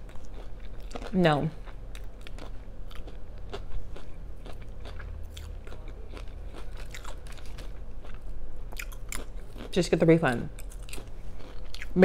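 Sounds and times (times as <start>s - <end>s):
person chewing crunchy food: 0.0s - 9.8s, 10.5s - 12.0s.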